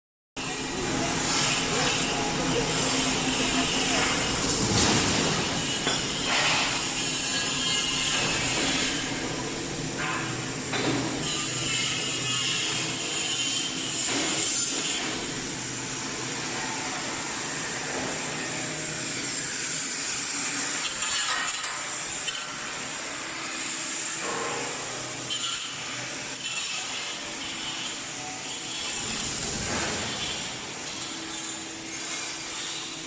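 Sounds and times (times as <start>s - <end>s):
drying tunnel fans and conveyor: 0.4s - 33.0s.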